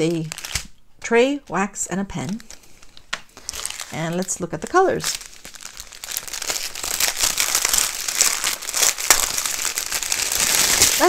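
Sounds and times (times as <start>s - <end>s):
plastic packaging crinkling: 0.0s - 0.8s, 2.2s - 11.0s.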